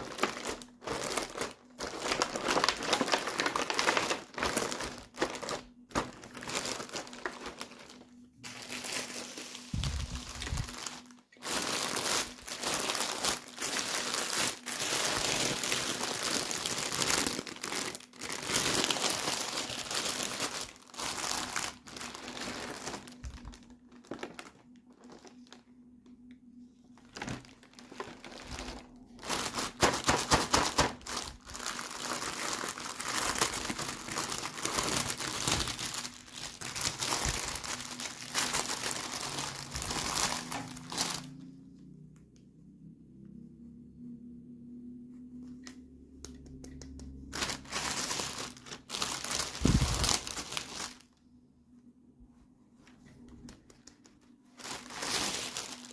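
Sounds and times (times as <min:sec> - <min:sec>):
packaging crinkling and rustling: 0:00.0 - 0:26.2, 0:26.8 - 0:41.6, 0:45.5 - 0:51.2, 0:52.8 - 0:55.9.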